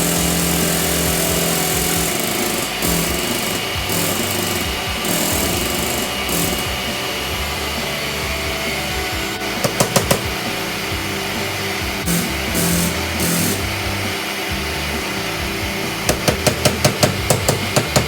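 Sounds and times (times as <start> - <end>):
background music: 0.0 - 18.0
power tool working a surface: 0.0 - 18.0.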